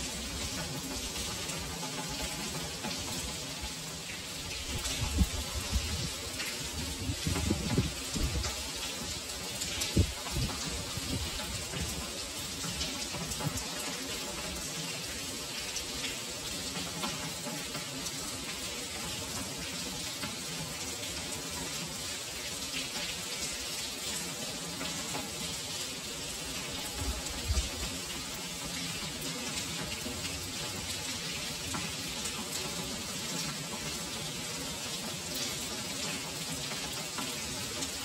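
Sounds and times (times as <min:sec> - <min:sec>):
heavy rain on stone paving: 0:00.0 - 0:38.0.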